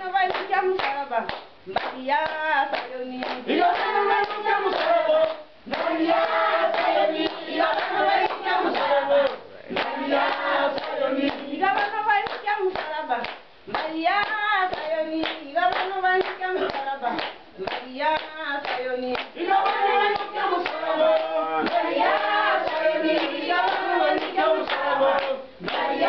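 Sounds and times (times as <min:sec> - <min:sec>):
group singing a hymn: 0:00.0 - 0:26.0
hand clapping: 0:00.2 - 0:26.0.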